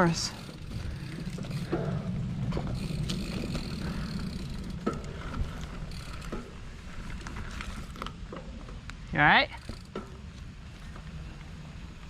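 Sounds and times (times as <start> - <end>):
bike rattling over bumps: 0.0 - 11.3
bike tyres rumbling on dirt: 0.0 - 12.0.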